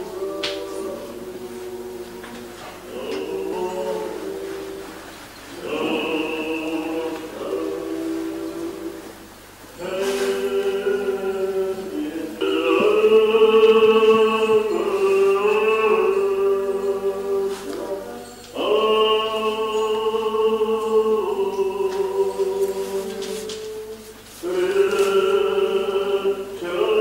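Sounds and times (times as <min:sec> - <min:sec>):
choir singing sustained chords: 0:00.0 - 0:27.0.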